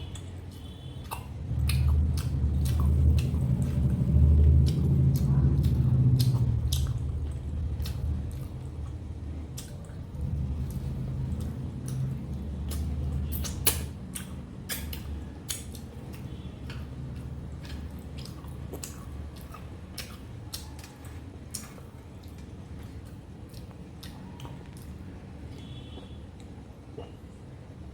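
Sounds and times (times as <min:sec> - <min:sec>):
person chewing food: 0:00.0 - 0:27.2
low steady hum: 0:00.0 - 0:27.9.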